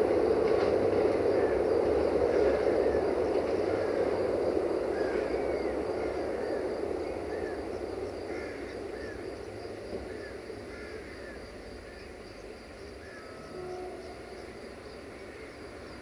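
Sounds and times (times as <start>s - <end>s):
train rumbling across bridge: 0.0s - 16.0s.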